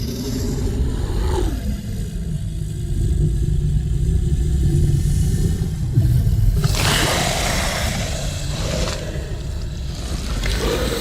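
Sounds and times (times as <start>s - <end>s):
deep rumbling creature growl: 0.0s - 11.0s.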